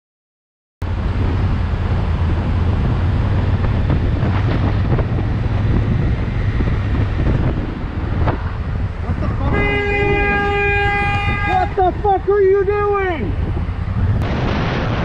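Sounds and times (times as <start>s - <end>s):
wind rushing over microphone: 0.8s - 15.0s.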